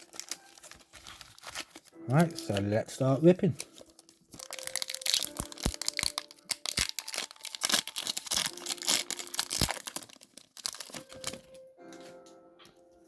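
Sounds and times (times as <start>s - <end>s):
foil wrappers crinkling: 0.0s - 11.7s.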